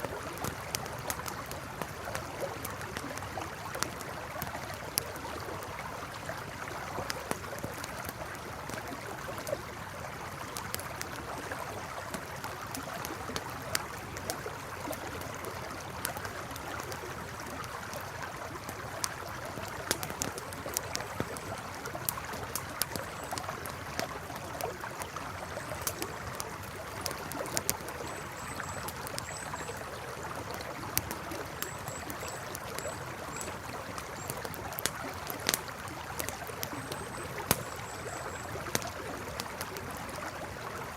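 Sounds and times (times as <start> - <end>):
campfire crackling: 0.0 - 40.9
river flowing: 0.0 - 40.9.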